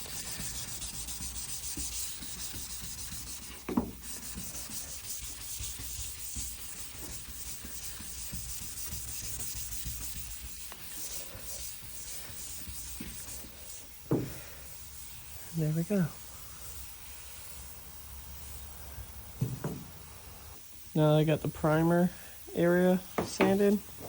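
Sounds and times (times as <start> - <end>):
sandpaper scrubbing on paint: 0.0 - 18.7, 21.0 - 24.0.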